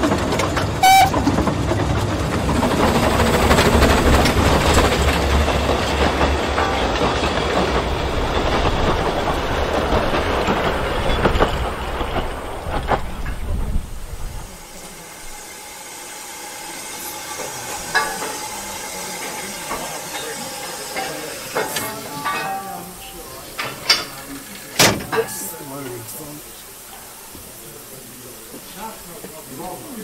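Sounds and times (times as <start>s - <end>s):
train wheels clattering over rail joints: 0.0s - 15.7s, 16.6s - 26.2s
steam hiss: 0.0s - 30.0s.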